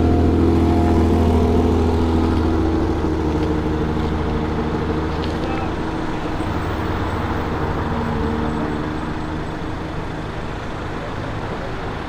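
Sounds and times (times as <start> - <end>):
sports car engine running low: 0.0 - 12.0.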